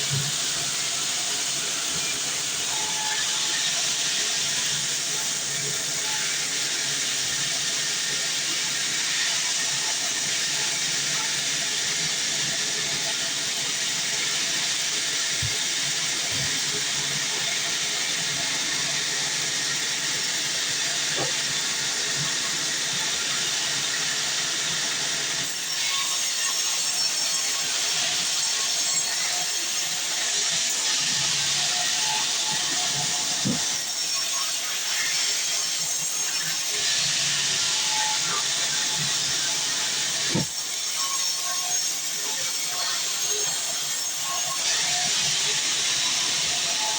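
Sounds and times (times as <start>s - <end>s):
bandsaw cutting through log: 0.0s - 46.9s.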